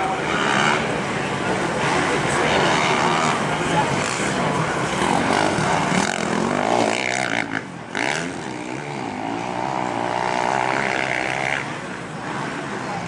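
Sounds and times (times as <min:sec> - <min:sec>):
motocross engines revving: 0:00.0 - 0:13.0.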